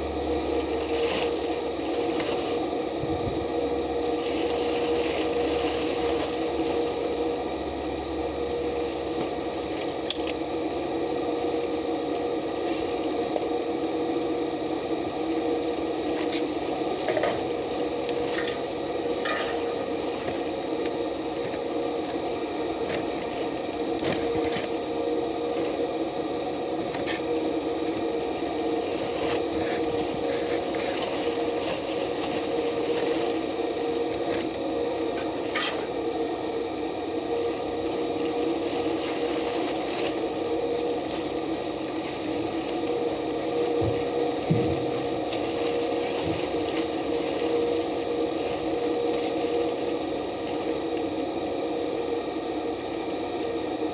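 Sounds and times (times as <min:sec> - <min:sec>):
welding arc crackling and sizzling: 0:00.0 - 0:53.7.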